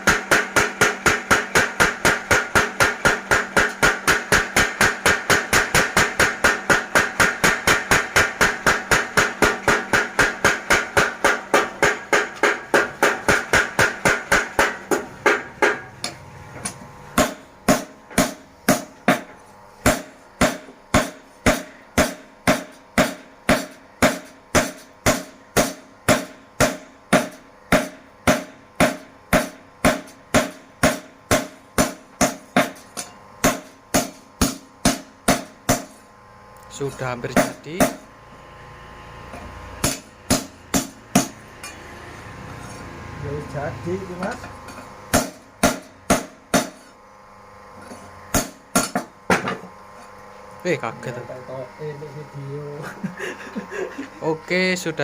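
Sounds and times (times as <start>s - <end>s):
power hammer striking hot steel: 0.0s - 36.1s, 36.8s - 38.1s, 38.9s - 42.0s, 42.6s - 47.0s, 47.8s - 49.7s.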